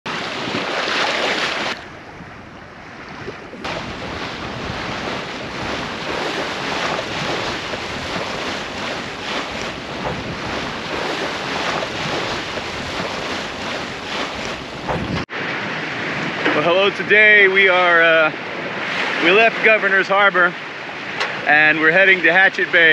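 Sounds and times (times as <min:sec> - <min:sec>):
sea water rushing along hull: 0:00.0 - 0:22.9
wind buffeting microphone: 0:00.1 - 0:19.8.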